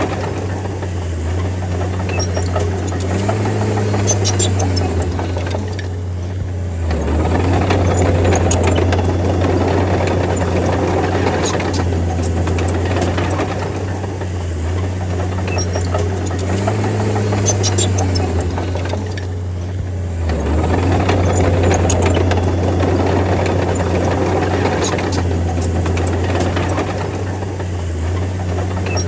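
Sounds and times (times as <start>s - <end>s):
metallic clicks and clanks: 0.0s - 14.3s, 15.0s - 29.0s
bulldozer diesel engine running: 0.0s - 29.0s.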